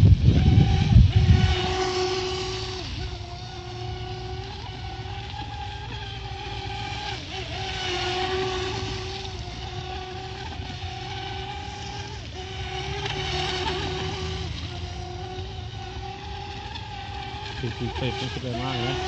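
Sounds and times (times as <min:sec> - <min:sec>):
model boat motor whine: 0:00.0 - 0:19.0.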